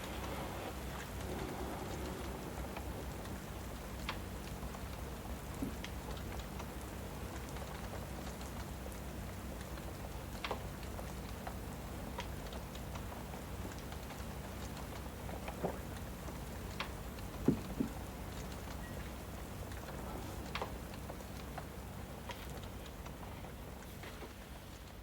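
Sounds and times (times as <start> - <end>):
steady rain: 0.0 - 25.0
wood fire crackling: 0.0 - 25.0.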